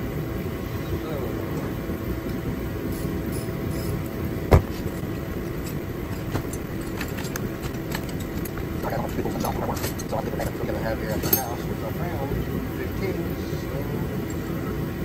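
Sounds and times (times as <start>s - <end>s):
heater rushing hum: 0.0s - 15.0s.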